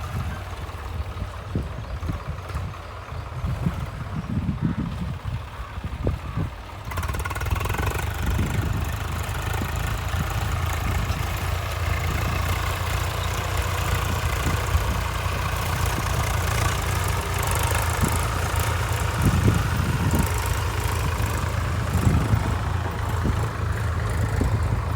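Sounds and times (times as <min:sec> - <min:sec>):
tractor engine running under load: 0:00.0 - 0:24.9.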